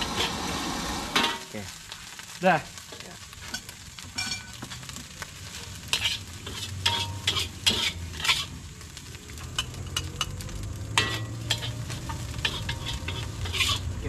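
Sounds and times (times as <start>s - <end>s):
metal spatula scraping wok: 0.0s - 1.6s, 3.4s - 14.0s
rice sizzling: 0.0s - 14.0s.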